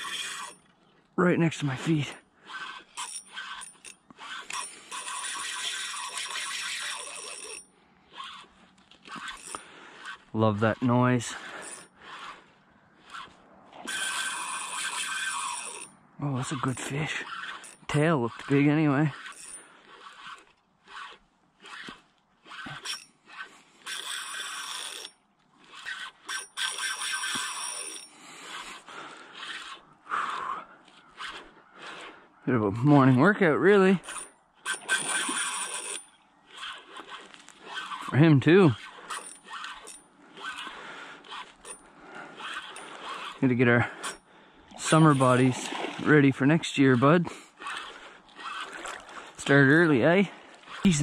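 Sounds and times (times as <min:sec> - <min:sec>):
fishing reel drag buzzing: 0:00.0 - 0:00.8, 0:02.4 - 0:10.6, 0:11.3 - 0:32.2, 0:34.0 - 0:51.0.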